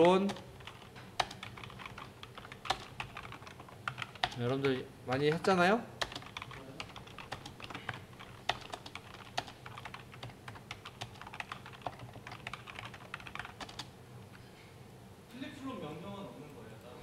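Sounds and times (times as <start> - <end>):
computer keyboard typing: 0.0 - 13.9.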